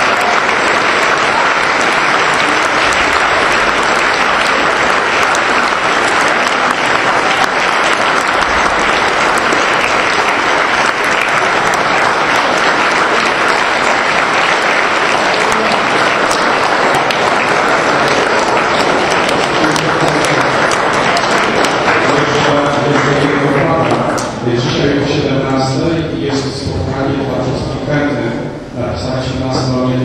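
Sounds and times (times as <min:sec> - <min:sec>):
audience applauding: 0:00.0 - 0:26.4.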